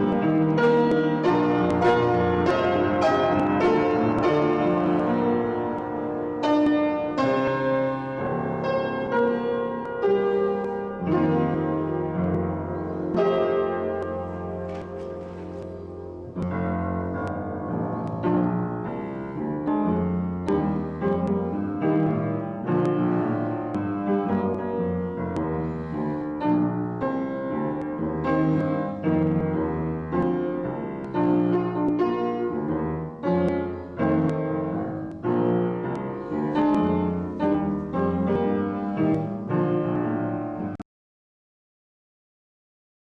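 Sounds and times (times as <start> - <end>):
slow classical solo piano: 0.0 - 40.8.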